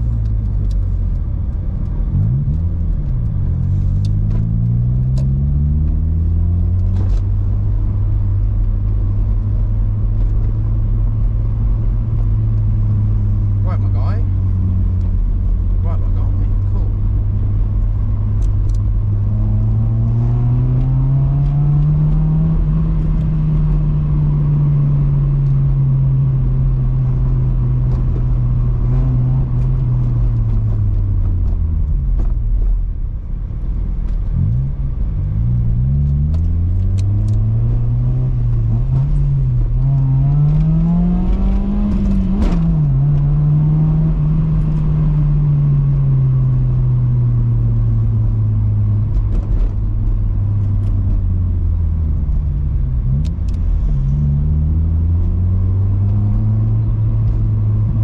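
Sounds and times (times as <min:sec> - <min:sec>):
car engine and exhaust: 0:00.0 - 0:58.0.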